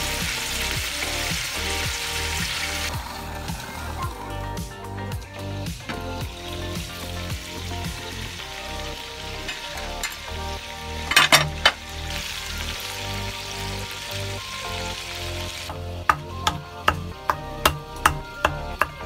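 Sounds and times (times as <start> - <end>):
pot sizzling hiss: 0.0 - 18.8.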